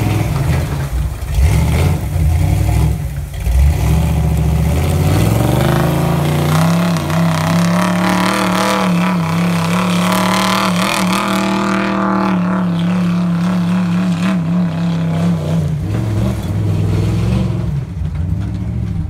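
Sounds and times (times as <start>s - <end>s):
truck engine revving high: 0.0s - 19.0s.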